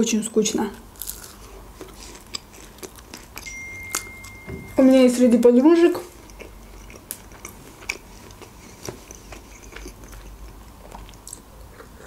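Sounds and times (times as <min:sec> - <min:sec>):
close-miked chewing: 0:01.0 - 0:04.3, 0:05.3 - 0:12.0.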